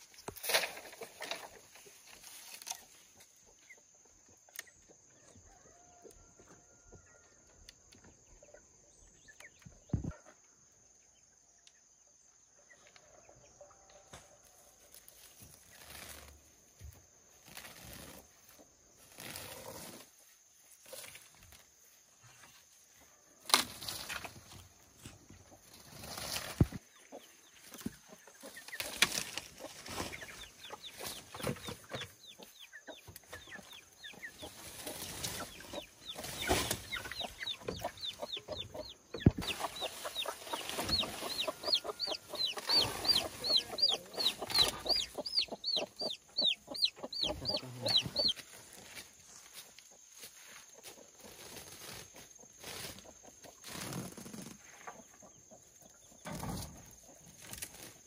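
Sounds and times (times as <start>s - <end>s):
chickens clucking: 0.0s - 11.0s, 12.5s - 58.0s.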